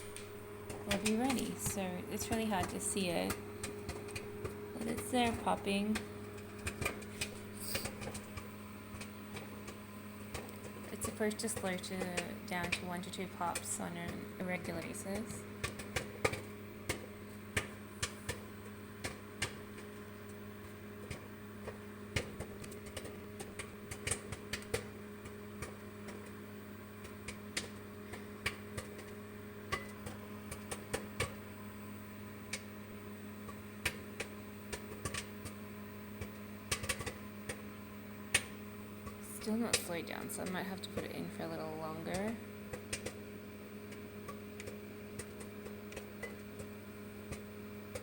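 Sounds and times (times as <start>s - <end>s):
microwave oven humming: 0.0s - 48.0s
popcorn popping: 0.0s - 48.0s.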